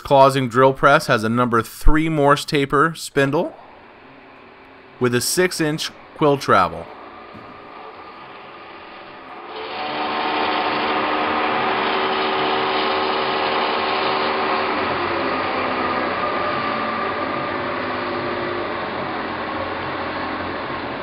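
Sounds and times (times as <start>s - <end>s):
drill press motor humming: 3.5s - 21.0s.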